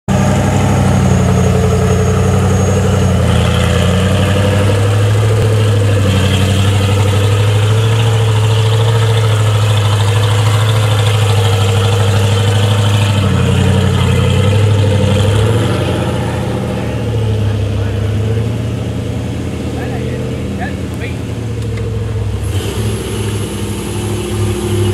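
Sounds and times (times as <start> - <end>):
buggy engine running under load: 0.0 - 24.9.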